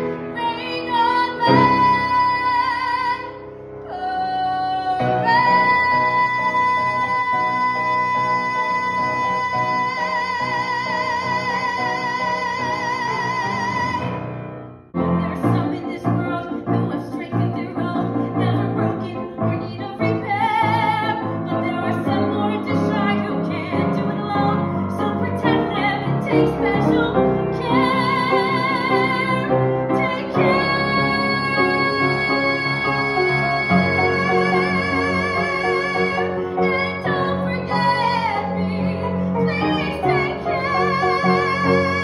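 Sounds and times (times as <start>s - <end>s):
woman singing with vibrato: 0.3s - 14.2s, 15.2s - 42.0s.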